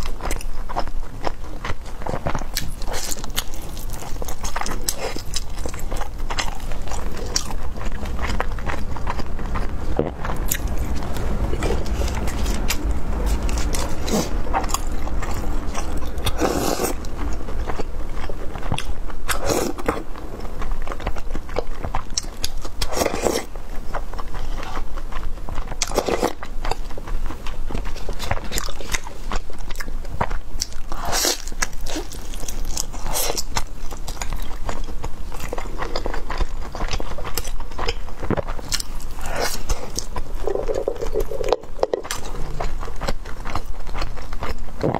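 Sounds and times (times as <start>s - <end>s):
close-miked chewing and biting: 0.0s - 44.9s.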